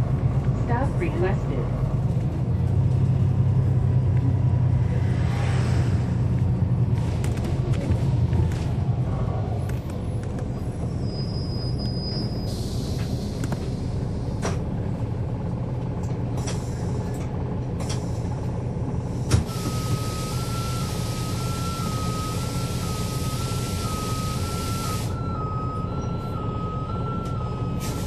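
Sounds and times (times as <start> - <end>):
bus diesel engine rumble: 0.0 - 28.0.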